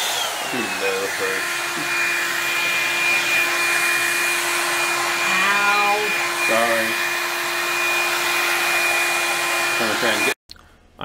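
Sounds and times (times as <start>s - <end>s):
hot air brush blowing: 0.0s - 10.4s.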